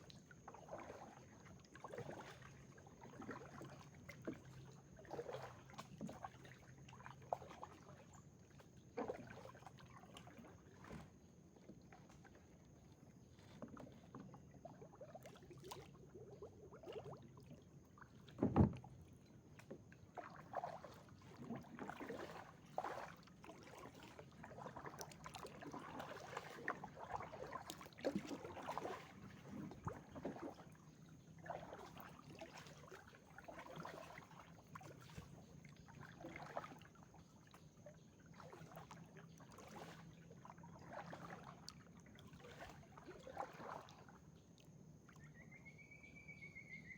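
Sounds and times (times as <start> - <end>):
paddle strokes in water: 0.0 - 46.9.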